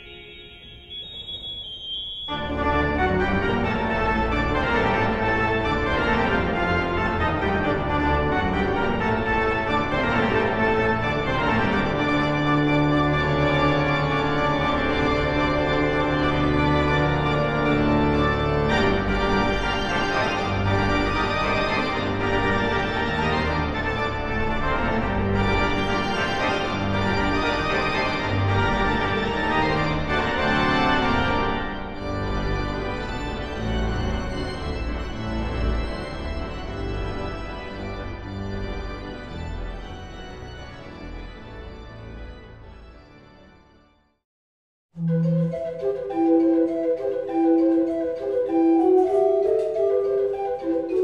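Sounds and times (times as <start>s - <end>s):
pipe organ chords: 0.0s - 43.9s.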